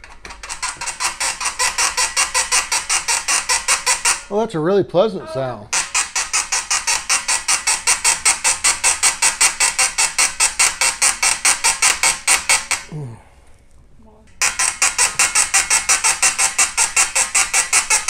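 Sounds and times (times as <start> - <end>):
metal tube squeaking: 0.0 - 4.4, 5.2 - 12.9, 14.4 - 18.0.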